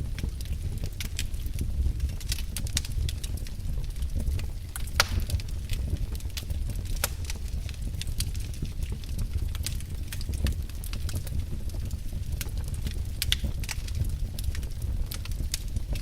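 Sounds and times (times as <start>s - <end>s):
low rumble of flames: 0.0s - 16.0s
wood fire crackling: 0.0s - 16.0s
sharp fire pops: 0.1s - 16.0s.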